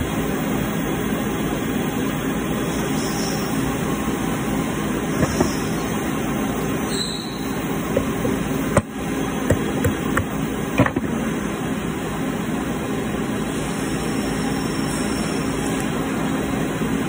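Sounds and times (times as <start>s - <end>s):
machine shop hum: 0.0s - 17.0s.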